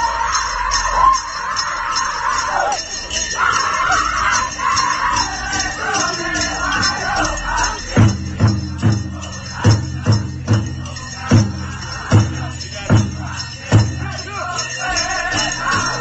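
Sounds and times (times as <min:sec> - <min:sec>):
dancers' bells jingling: 0:00.0 - 0:16.0
group singing: 0:00.0 - 0:16.0
powwow drum beats: 0:00.0 - 0:16.0.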